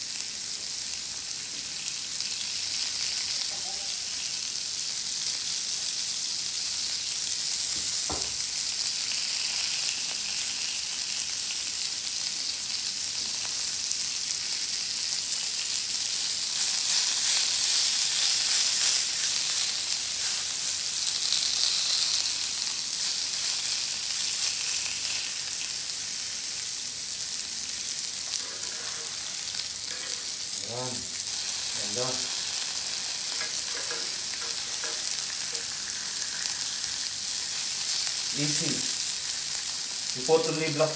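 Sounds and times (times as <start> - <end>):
fish sizzling in grill pan: 0.0 - 40.9.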